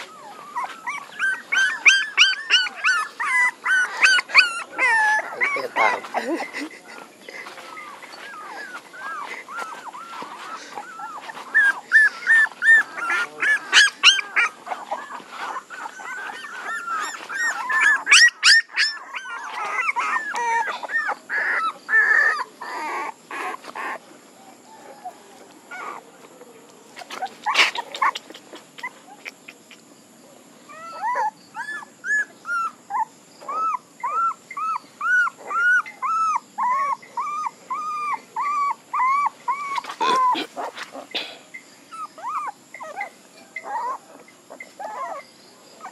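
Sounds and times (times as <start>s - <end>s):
puppies whimpering and whining: 0.0s - 26.3s, 27.0s - 29.9s, 30.6s - 45.9s.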